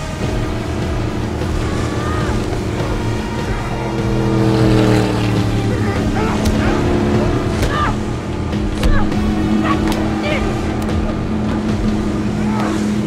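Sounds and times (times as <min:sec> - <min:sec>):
rushing water: 0:00.0 - 0:13.0
speedboat engines running hard: 0:00.0 - 0:13.0.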